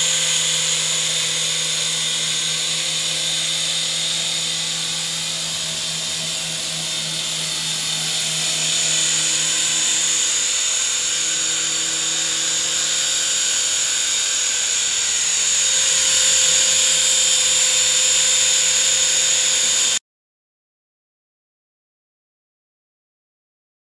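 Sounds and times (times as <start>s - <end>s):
toy helicopter rotors whining: 0.0s - 20.0s.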